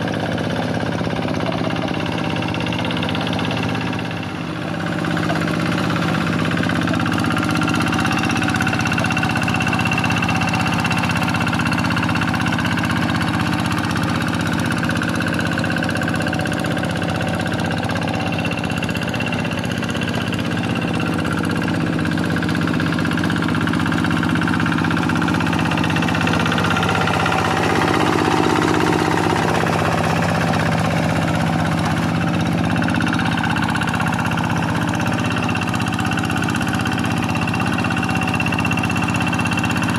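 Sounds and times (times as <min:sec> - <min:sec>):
diesel hand tractor engine running: 0:00.0 - 0:39.9.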